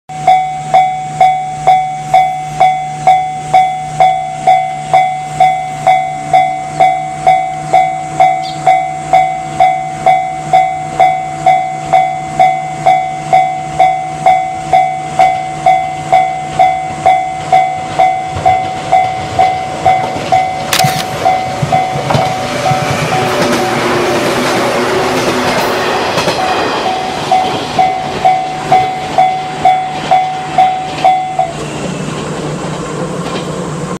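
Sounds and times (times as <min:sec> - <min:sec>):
level-crossing warning bell: 0:00.1 - 0:32.4
electric train running past: 0:00.1 - 0:34.0.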